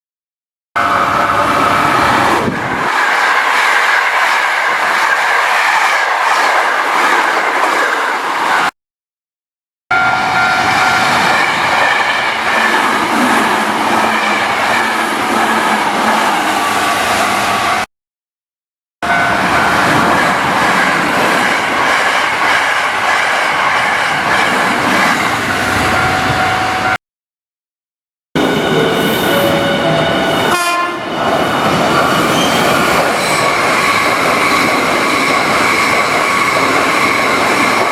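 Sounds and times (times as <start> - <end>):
train passing close by: 0.8 - 8.7, 9.9 - 17.9, 19.0 - 27.0, 28.4 - 37.9.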